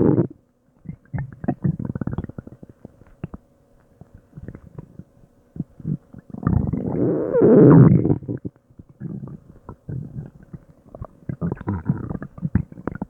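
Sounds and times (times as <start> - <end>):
stomach growl: 0.0 - 13.0
stomach gurgling: 0.0 - 13.0.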